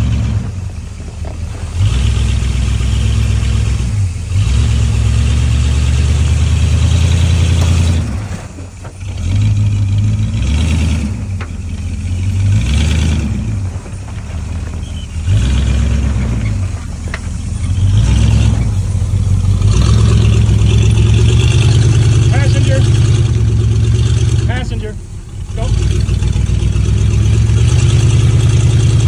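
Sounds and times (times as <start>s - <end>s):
off-road vehicle engine: 0.0s - 29.0s.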